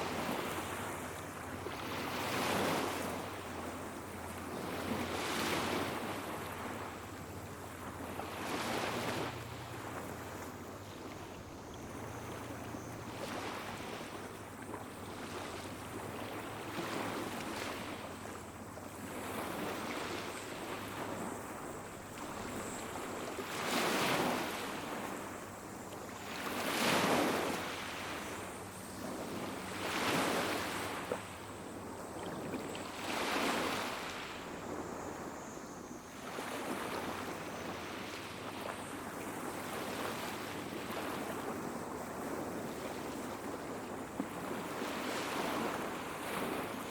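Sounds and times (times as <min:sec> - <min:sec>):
small waves washing onto beach: 0:00.0 - 0:46.9.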